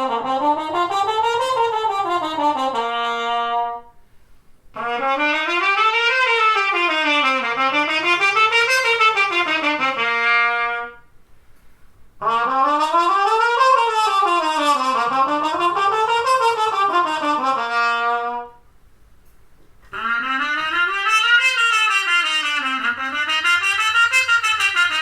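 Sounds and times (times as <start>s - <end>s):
trumpet playing: 0.0s - 4.0s, 4.7s - 11.1s, 12.2s - 18.7s, 19.8s - 25.0s.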